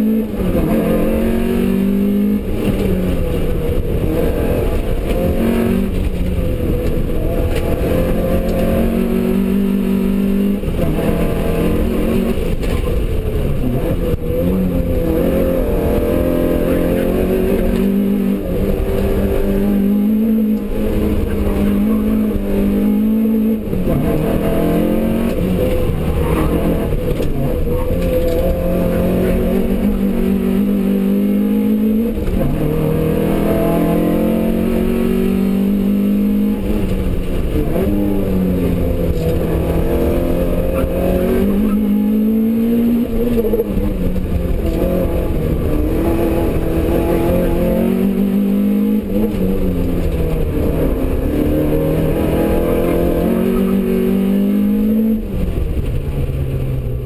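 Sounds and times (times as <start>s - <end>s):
car engine revving hard: 0.0s - 56.1s.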